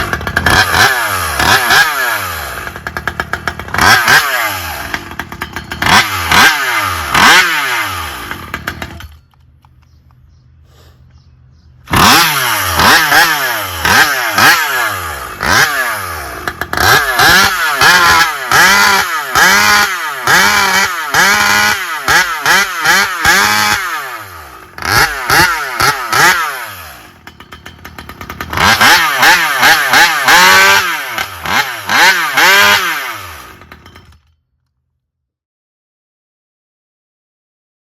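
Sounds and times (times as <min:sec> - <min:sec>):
chainsaw revving: 0:00.0 - 0:09.3, 0:11.8 - 0:34.3.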